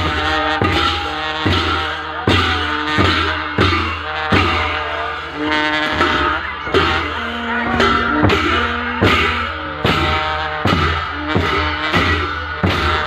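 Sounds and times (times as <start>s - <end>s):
barrel drums beating: 0.0s - 13.0s
wind instruments holding notes: 0.0s - 13.0s.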